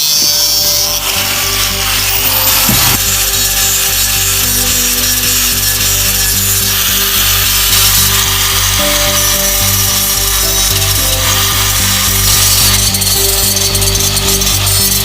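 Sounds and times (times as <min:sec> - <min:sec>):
background music with steady beat: 0:00.0 - 0:15.0
rasping tool noise: 0:00.0 - 0:15.0.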